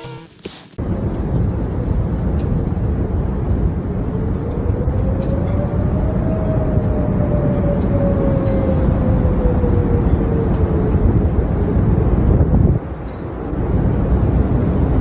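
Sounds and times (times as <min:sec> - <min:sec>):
strong wind against microphone: 0:00.8 - 0:15.0.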